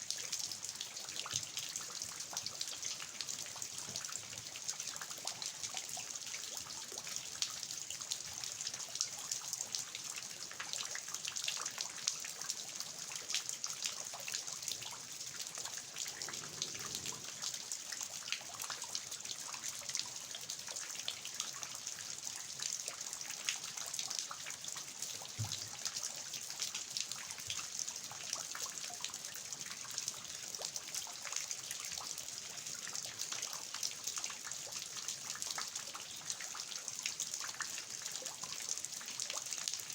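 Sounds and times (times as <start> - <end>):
rain pattering on garden: 0.0 - 39.9
water dripping from eaves: 0.0 - 39.9.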